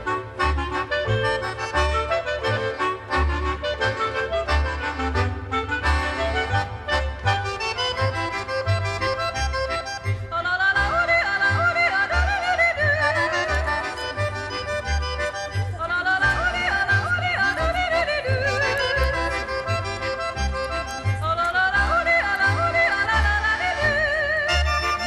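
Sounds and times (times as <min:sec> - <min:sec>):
accordion: 0:00.0 - 0:25.0.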